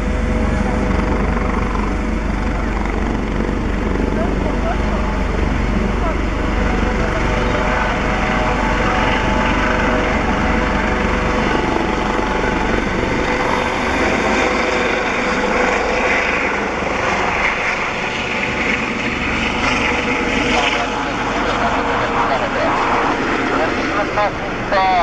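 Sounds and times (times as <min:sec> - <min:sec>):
helicopter rotor noise: 0:00.0 - 0:25.0
helicopter turbine whine: 0:00.0 - 0:25.0.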